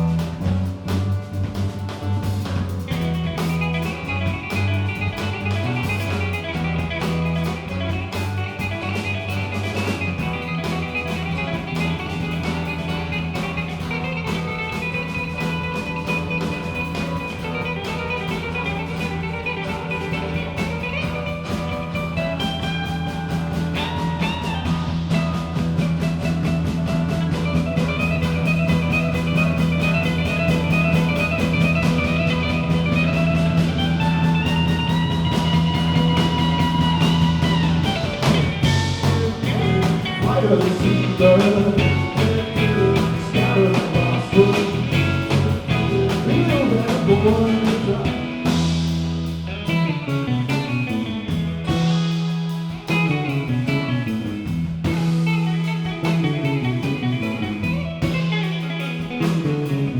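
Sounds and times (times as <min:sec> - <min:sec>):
guitars: 0:00.0 - 0:59.9
held bass: 0:00.0 - 0:59.9
rock band jamming: 0:00.0 - 0:59.9.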